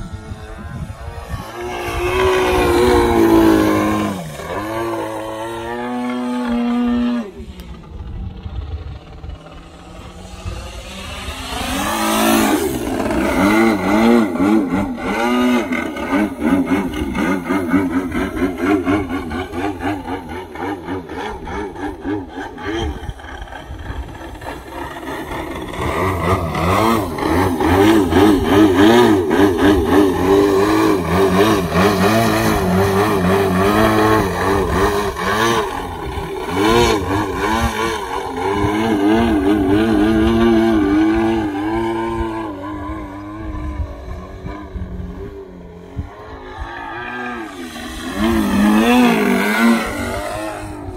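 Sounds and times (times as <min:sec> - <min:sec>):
model plane engine wavering: 0:00.0 - 0:50.9.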